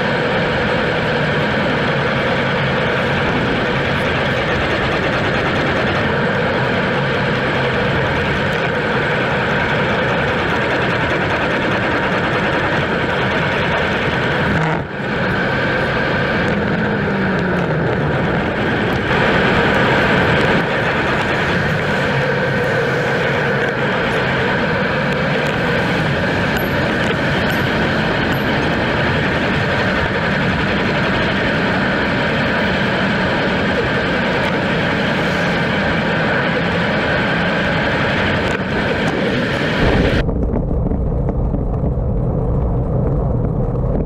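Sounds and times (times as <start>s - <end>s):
tyres on asphalt: 0.0s - 44.0s
wind rush: 0.0s - 44.0s.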